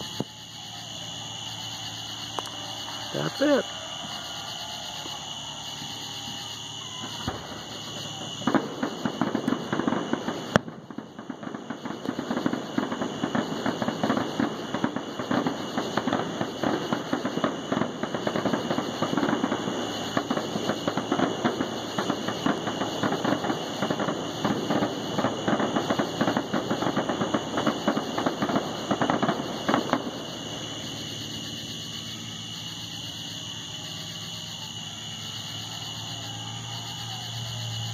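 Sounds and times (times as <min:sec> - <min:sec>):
distant fireworks booming: 0:00.0 - 0:37.9.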